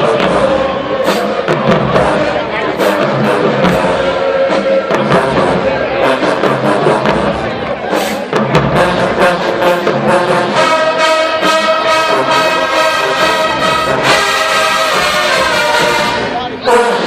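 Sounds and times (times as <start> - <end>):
marching band brass playing: 0.0 - 17.0.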